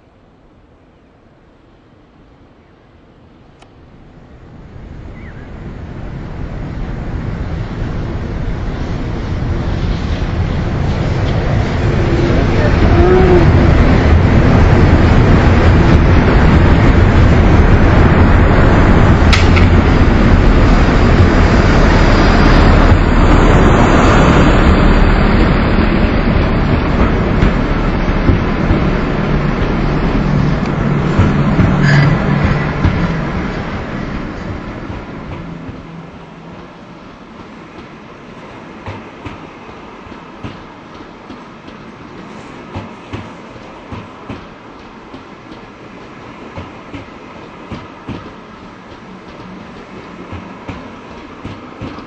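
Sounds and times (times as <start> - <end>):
electric train rumbling: 0.0 - 52.0.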